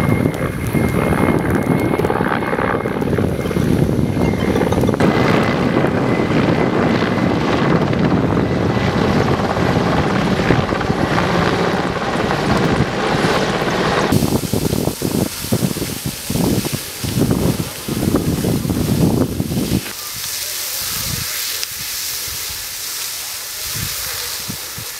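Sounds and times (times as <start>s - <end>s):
helicopter rotor beating: 0.0s - 21.4s.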